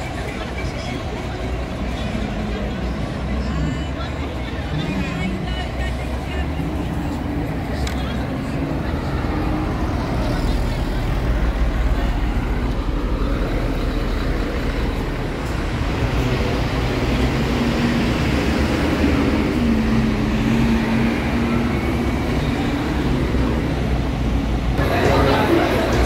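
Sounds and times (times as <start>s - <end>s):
diesel coach driving past: 0.0s - 26.0s
low street rumble: 0.0s - 26.0s.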